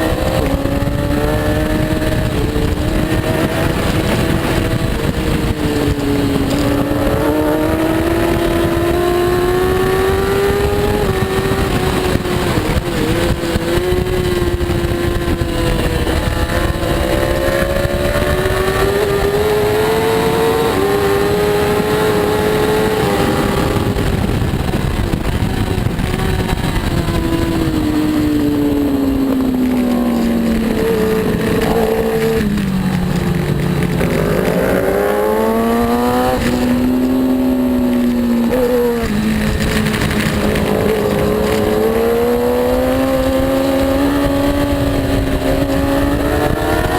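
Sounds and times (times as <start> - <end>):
heavy rushing noise: 0.0 - 46.9
motorbike engine racing: 0.0 - 46.9.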